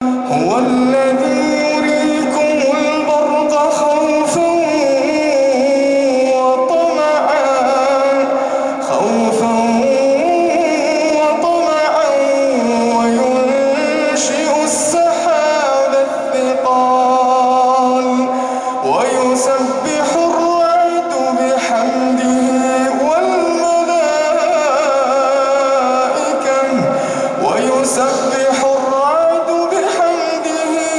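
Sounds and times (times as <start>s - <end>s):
man reciting melodically: 0.0s - 30.9s.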